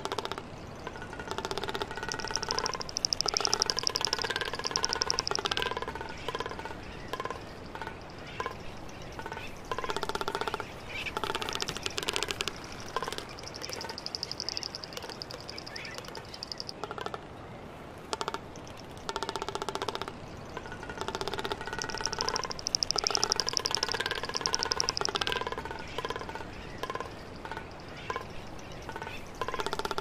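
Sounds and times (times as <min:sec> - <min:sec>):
birds rattling trilling calls: 0:00.0 - 0:16.9, 0:18.2 - 0:30.0.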